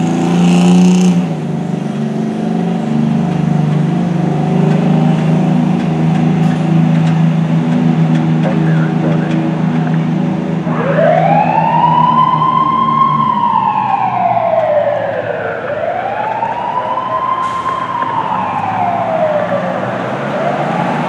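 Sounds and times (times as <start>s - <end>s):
truck engine drone: 0.0s - 21.0s
fire engine siren wailing: 0.2s - 21.0s.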